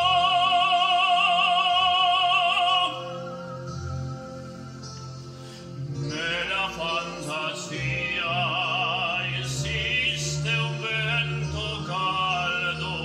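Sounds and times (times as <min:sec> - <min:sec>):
man singing operatically: 0:00.0 - 0:03.4, 0:06.0 - 0:13.0.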